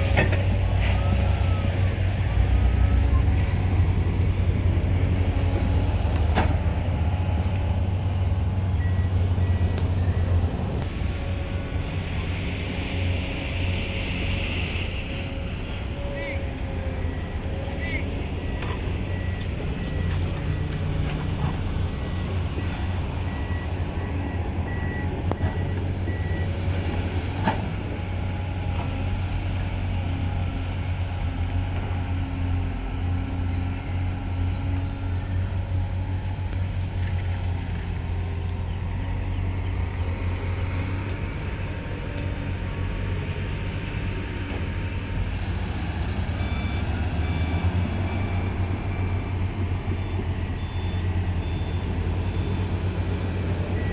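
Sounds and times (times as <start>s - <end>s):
heavy diesel engines droning: 0.0s - 53.9s
truck reversing alarm beeping: 0.0s - 53.9s.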